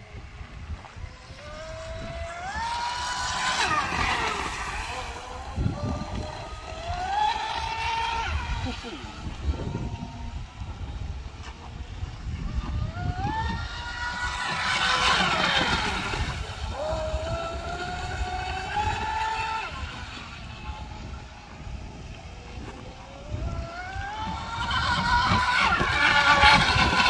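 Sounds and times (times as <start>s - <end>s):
electric motors whining: 0.0s - 27.0s
rc speedboat running across water: 0.0s - 27.0s.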